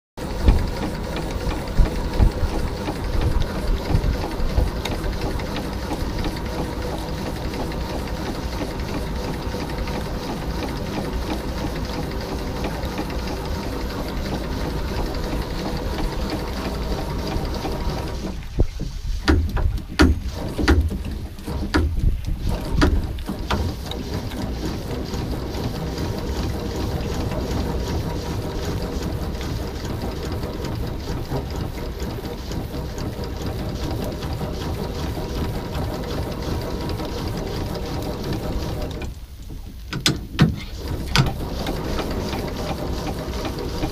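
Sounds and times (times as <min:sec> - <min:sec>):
engine knocks: 0:00.2 - 0:43.9
steam engine ticking: 0:00.2 - 0:43.9.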